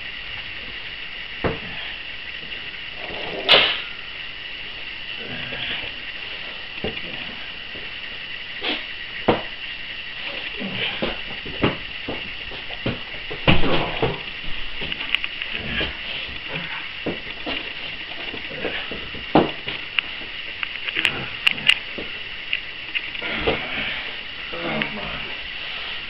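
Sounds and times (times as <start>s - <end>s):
high-pitched whine: 0.0s - 26.0s.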